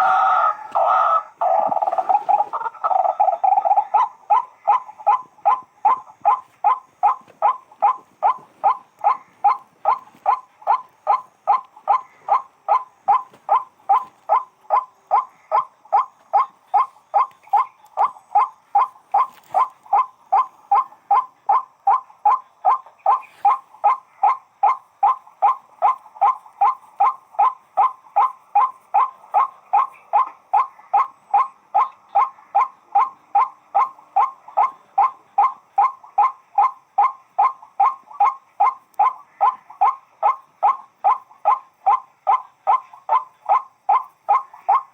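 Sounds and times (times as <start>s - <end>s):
waterhen calling: 0.0s - 44.9s.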